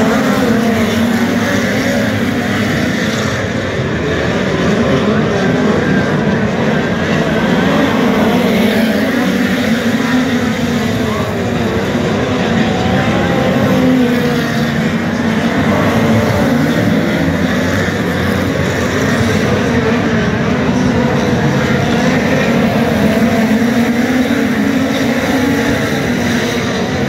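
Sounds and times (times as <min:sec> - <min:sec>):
race car engines droning: 0:00.0 - 0:27.0.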